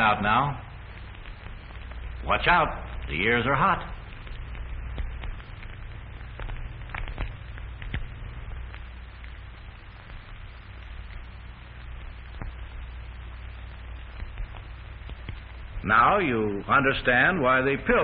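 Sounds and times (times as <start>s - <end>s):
film crackles and pops: 0.0s - 18.0s
low hum and hiss: 0.0s - 18.0s.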